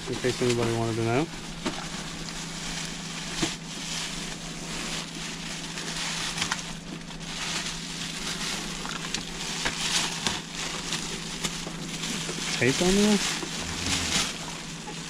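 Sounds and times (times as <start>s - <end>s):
steady low hum: 0.0s - 15.0s
cardboard crinkling and rustling: 0.2s - 15.0s.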